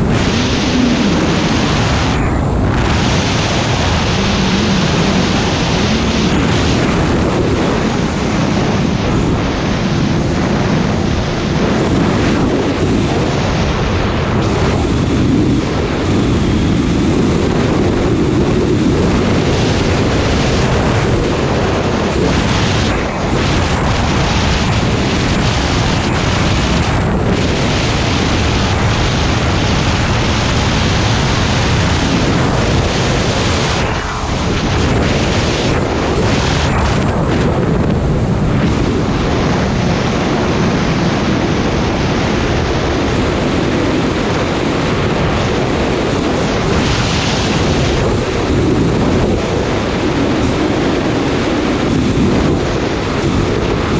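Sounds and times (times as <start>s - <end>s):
snowmobile engine running: 0.0s - 53.9s
wind rush on microphone: 0.0s - 53.9s.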